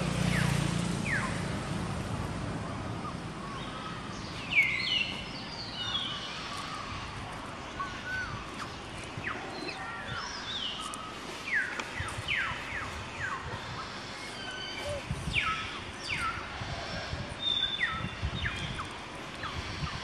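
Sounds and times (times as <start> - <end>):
birds chirping: 0.0 - 20.0
outdoor background hiss: 0.0 - 20.0.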